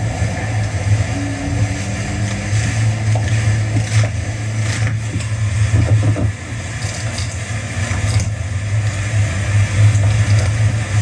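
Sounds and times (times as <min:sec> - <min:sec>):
jet ski engine drone: 0:00.0 - 0:11.0
water rushing: 0:00.0 - 0:11.0
wind rushing over microphone: 0:00.0 - 0:11.0.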